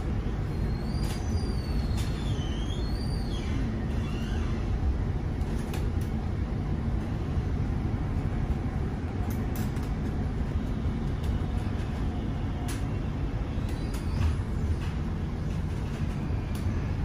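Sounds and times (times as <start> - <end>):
tram rumbling in motion: 0.0 - 17.0.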